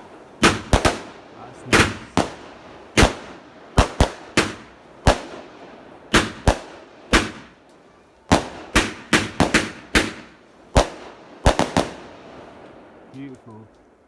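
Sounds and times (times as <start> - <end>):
firework bangs: 0.0 - 13.8.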